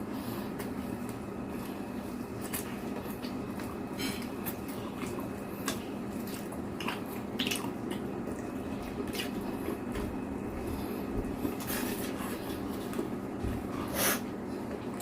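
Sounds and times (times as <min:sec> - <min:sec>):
wet chewing and mouth clicks: 0:00.6 - 0:13.6.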